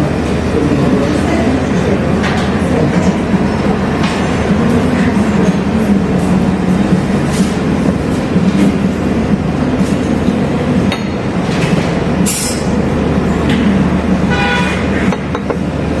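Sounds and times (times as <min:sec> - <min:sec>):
mechanical drone with low hum: 0:00.0 - 0:16.0.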